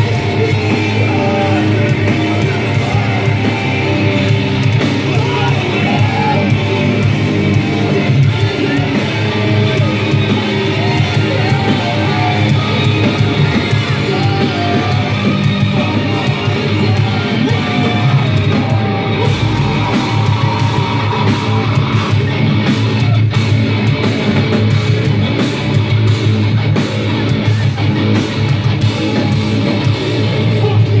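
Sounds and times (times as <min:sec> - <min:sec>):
live heavy metal band playing: 0:00.0 - 0:31.0.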